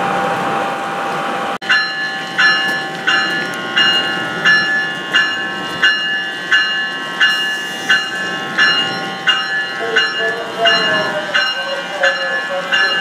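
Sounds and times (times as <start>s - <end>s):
locomotive hum: 0.0s - 13.0s
locomotive bell ringing: 1.6s - 13.0s.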